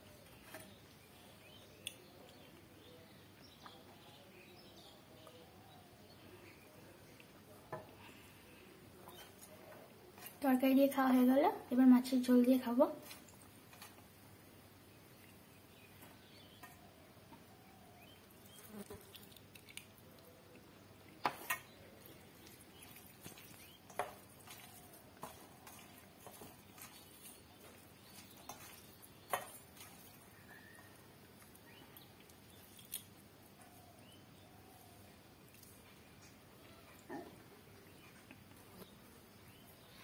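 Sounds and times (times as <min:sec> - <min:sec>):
soft squishing of food: 0:00.0 - 0:40.0.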